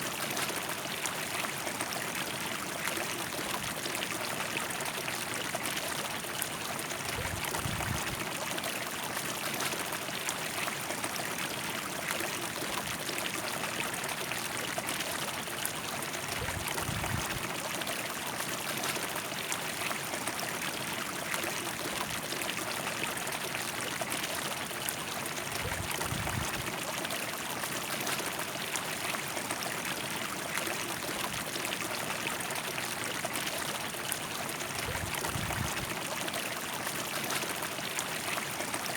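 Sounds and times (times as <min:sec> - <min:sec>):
river water over stones: 0:00.0 - 0:38.9.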